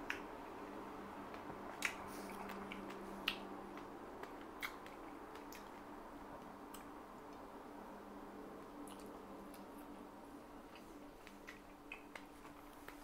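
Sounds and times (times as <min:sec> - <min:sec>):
clicks and squishes of eating berries: 0:00.0 - 0:00.3, 0:01.3 - 0:07.5, 0:08.8 - 0:13.0.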